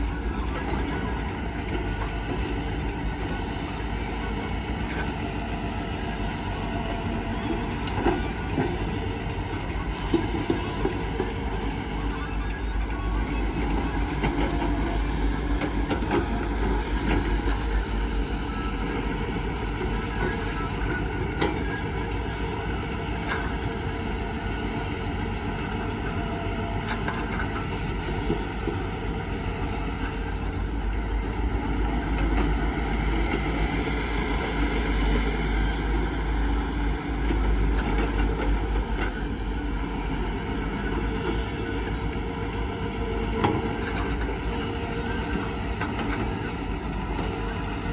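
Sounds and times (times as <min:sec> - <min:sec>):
heavy vehicle engine rumbling: 0:00.0 - 0:47.9.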